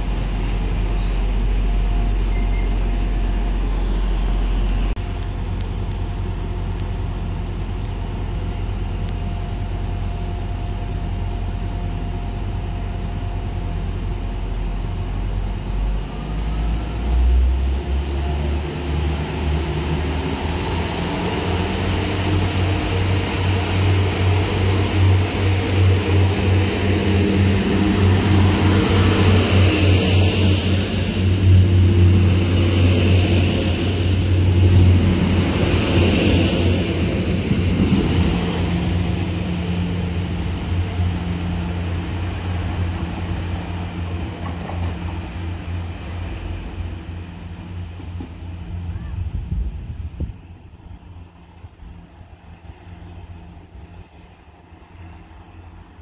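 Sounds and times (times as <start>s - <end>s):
diesel train engines throbbing: 0.0s - 56.0s.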